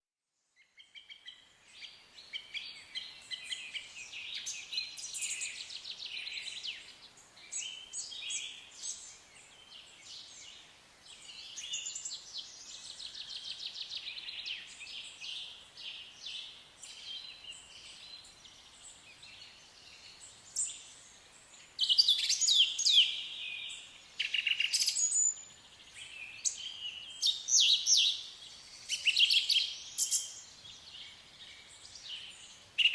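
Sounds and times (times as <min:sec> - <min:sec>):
small birds chirping and trilling: 0:00.6 - 0:32.9.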